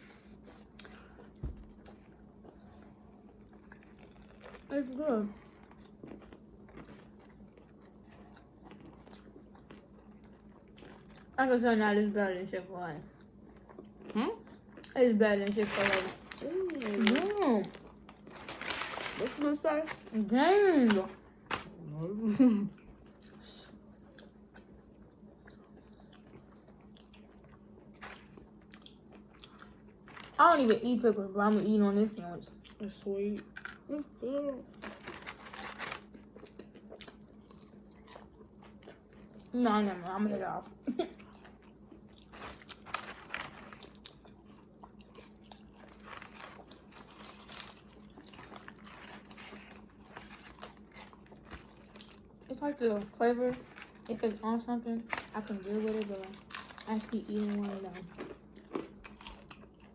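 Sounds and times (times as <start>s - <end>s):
person chewing food: 0.0s - 4.7s, 5.4s - 11.4s, 13.0s - 15.0s, 16.2s - 19.2s, 22.7s - 30.4s, 32.5s - 39.6s, 40.6s - 54.4s, 55.0s - 59.9s.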